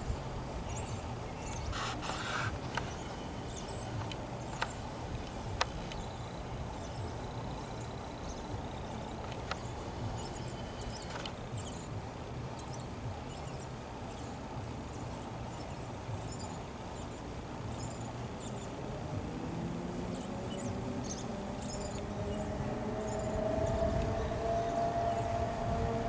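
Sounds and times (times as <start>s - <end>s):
low hum: 0.0s - 26.0s
small birds chirping: 0.0s - 26.0s
steady low rumble: 0.0s - 26.0s.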